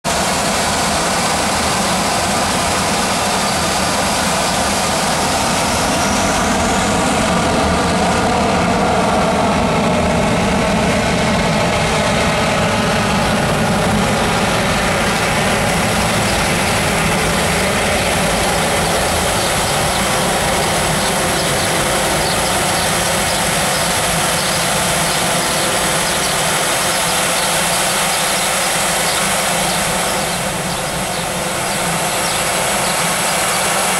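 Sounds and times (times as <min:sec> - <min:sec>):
engine whine: 0:00.0 - 0:33.9
jet engines at takeoff: 0:00.0 - 0:33.9.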